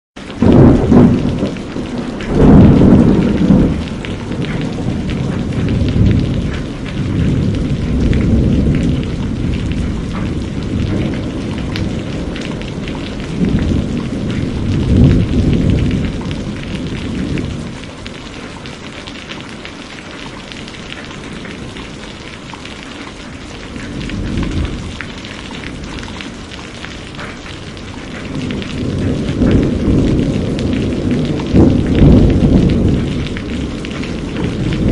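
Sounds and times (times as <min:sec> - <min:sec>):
rolling thunder: 0:00.2 - 0:18.7, 0:23.2 - 0:34.9
steady rain: 0:00.2 - 0:34.9.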